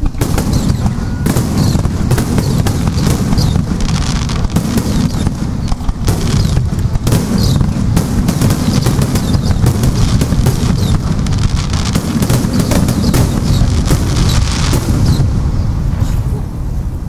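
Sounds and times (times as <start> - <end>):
fireworks bursting: 0.0 - 16.8.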